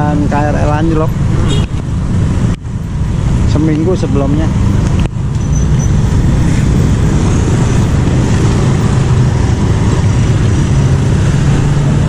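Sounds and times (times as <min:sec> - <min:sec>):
slow road traffic engines: 0:00.0 - 0:12.0.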